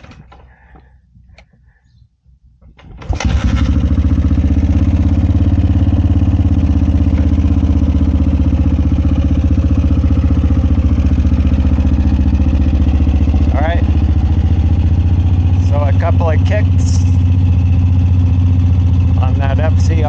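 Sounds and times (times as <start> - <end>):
motorcycle engine starting and running: 2.7 - 20.0.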